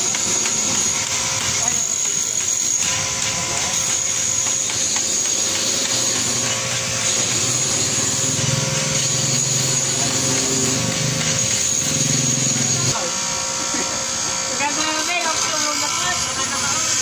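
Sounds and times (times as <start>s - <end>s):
bench grinder grinding steel: 0.0s - 17.0s.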